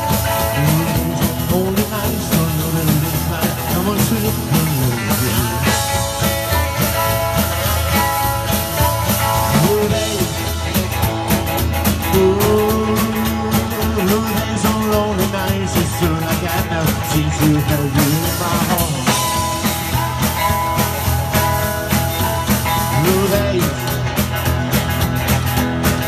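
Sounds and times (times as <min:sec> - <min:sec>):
harmonica: 0:00.0 - 0:26.0
live band playing: 0:00.0 - 0:26.0.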